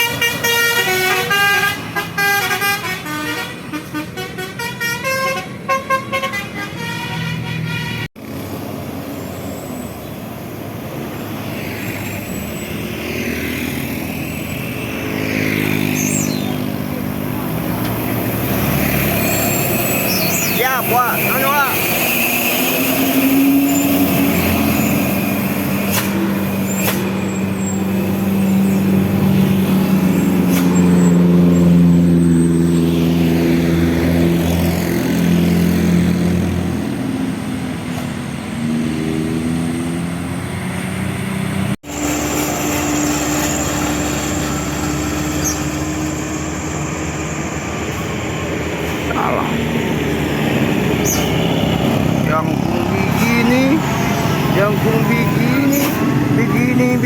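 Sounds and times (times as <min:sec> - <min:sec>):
diesel engine droning: 0:08.2 - 0:57.0.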